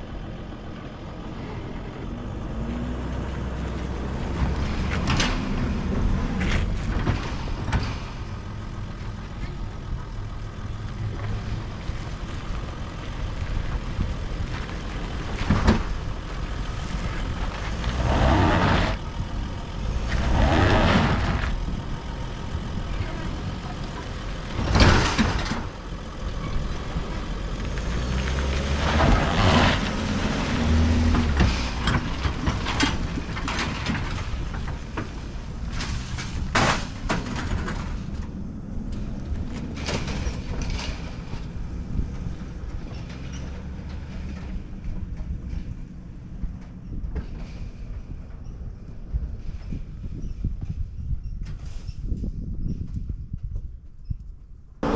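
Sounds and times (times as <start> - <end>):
van engine rumbling uphill: 0.0 - 54.9
tyres on gravel: 2.4 - 49.8
trailer knocking and rattling: 2.5 - 54.9.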